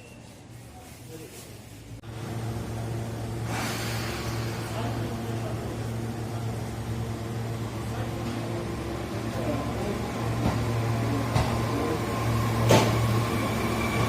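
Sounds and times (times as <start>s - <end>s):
railcar engine humming: 2.0s - 14.0s.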